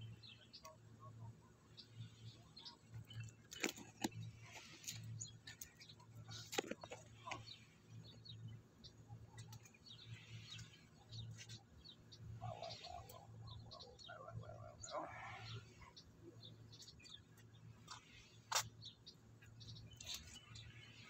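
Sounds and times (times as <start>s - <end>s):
faint bird chirps: 4.1s - 21.0s.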